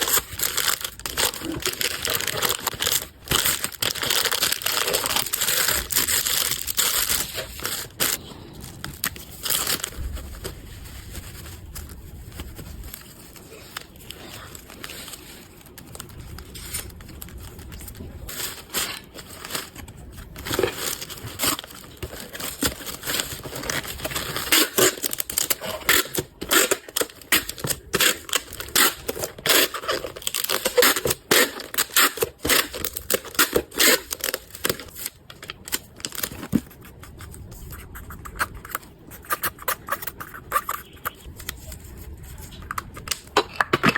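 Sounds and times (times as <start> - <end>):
packaging crinkling and tearing: 0.0 - 43.9.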